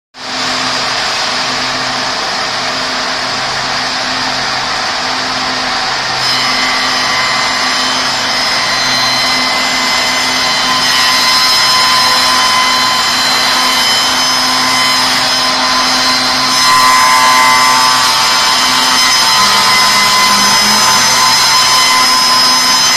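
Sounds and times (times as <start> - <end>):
cutters routing wood: 0.2 - 22.9
machine steady whine: 0.2 - 22.9.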